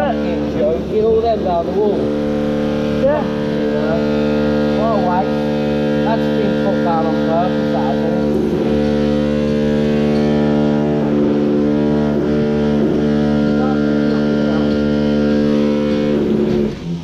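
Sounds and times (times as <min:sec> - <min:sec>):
loud machine hum: 0:00.0 - 0:17.0.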